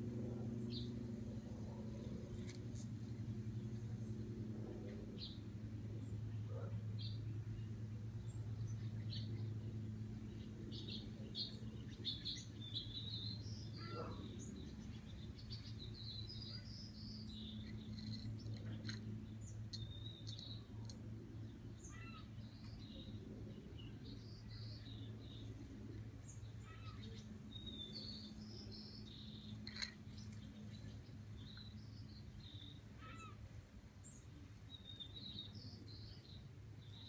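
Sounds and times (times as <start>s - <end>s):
steady low hum: 0.0s - 37.0s
small birds chirping: 6.0s - 37.0s.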